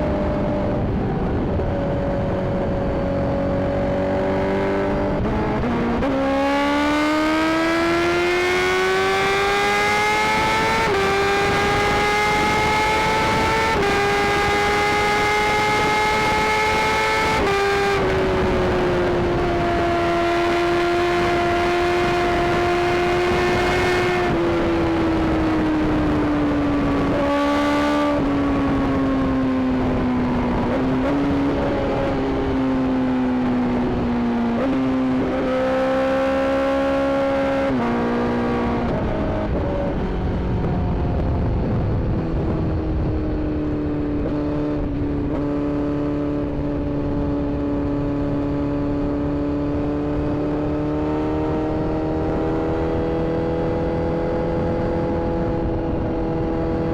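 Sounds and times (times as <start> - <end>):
motorcycle engine shifting gears: 0.0 - 56.9.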